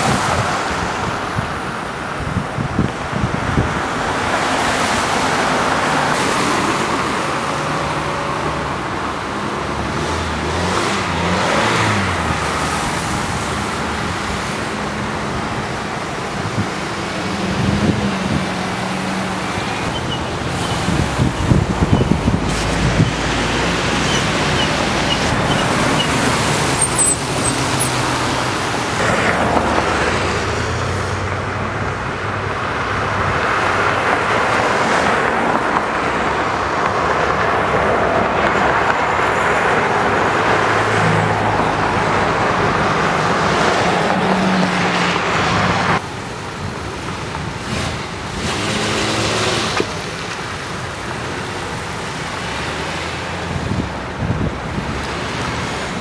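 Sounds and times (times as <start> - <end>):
car engines running: 0.0 - 56.0.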